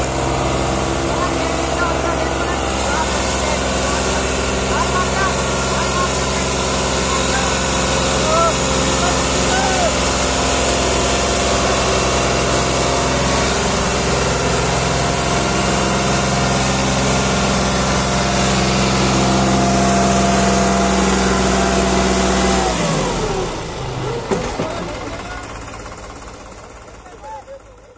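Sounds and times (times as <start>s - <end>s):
tractor diesel engine straining: 0.0s - 27.9s.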